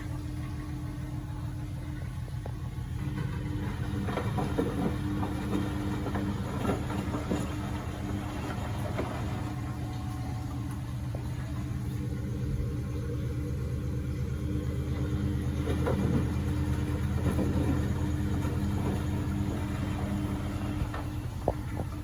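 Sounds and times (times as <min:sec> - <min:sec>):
washing machine motor humming: 0:00.0 - 0:22.0
laundry and water swishing: 0:02.7 - 0:12.5, 0:13.9 - 0:22.0.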